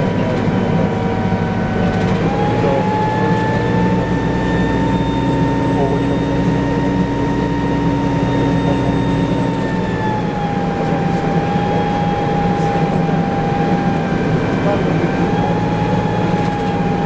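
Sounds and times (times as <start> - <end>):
bus engine droning low: 0.0 - 17.0
transmission whine: 0.0 - 17.0.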